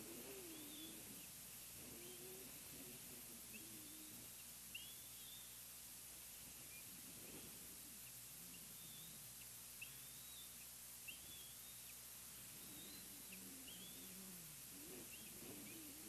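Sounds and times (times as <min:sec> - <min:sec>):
low soft bird call: 0:00.0 - 0:05.6, 0:06.6 - 0:16.0
steady outdoor hiss: 0:00.0 - 0:16.0
faint high bird chirps: 0:00.1 - 0:05.7, 0:06.6 - 0:16.0.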